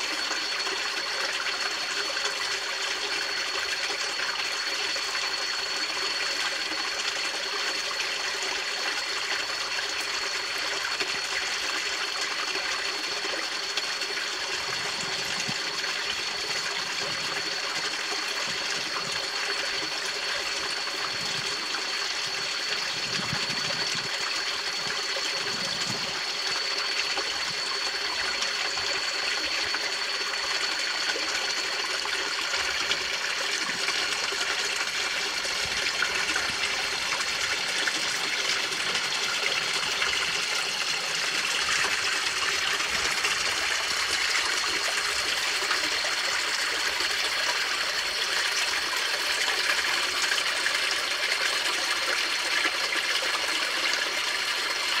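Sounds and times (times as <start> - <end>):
thin high whine: 0.0 - 54.4
stream running over stones: 0.0 - 55.0.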